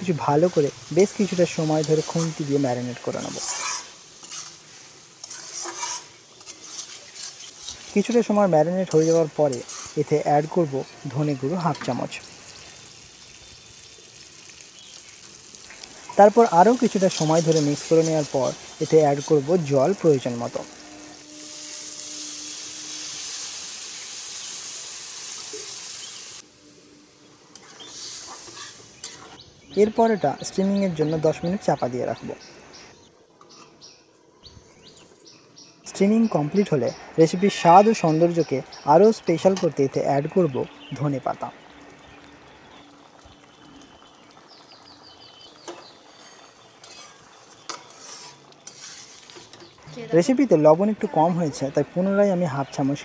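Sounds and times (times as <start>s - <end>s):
water hissing in hot oil: 0.0s - 26.8s, 27.5s - 33.0s, 35.9s - 53.0s.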